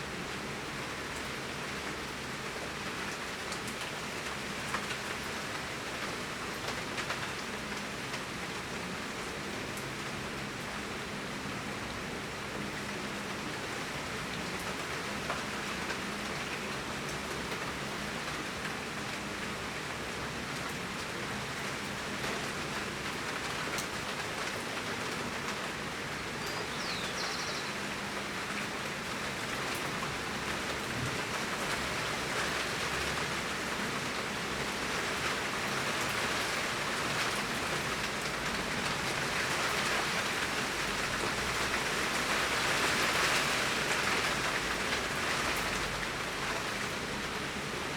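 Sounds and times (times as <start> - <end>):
torrential rain pouring: 0.0 - 47.9.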